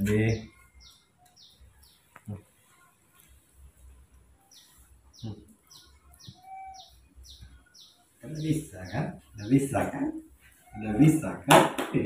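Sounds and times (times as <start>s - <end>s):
bird chirping: 0.0s - 11.6s.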